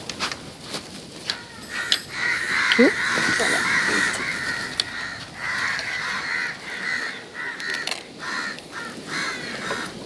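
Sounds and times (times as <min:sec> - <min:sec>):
crows cawing: 0:01.2 - 0:10.0.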